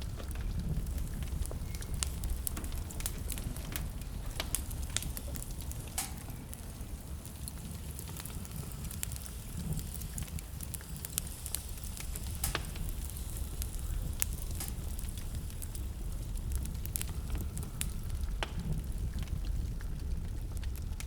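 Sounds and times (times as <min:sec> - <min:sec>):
blizzard wind rumble: 0:00.0 - 0:21.0
wood fire crackling: 0:00.0 - 0:21.0.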